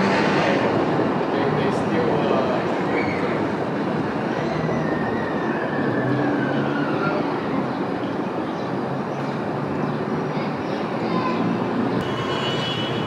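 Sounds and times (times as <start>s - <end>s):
subway wheel and track noise: 0.0s - 13.0s.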